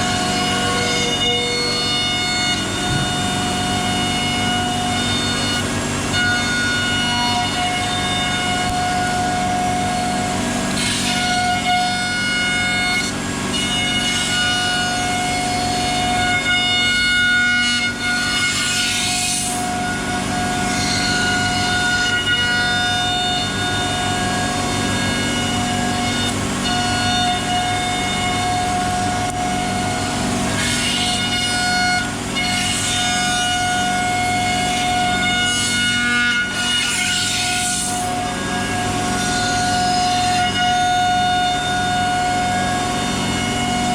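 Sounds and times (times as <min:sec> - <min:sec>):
bit cutting wood: 0:00.0 - 0:43.9
cnc router spindle whine: 0:00.0 - 0:43.9.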